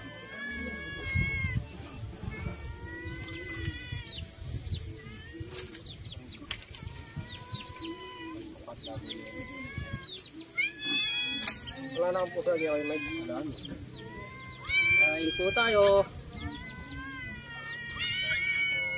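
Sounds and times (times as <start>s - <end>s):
animal chirps and calls: 0.0s - 18.9s.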